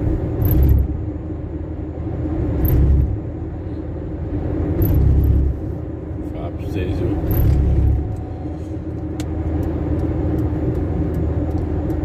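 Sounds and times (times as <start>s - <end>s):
deeper rumble: 0.0s - 12.0s
van engine and road drone: 0.0s - 12.0s.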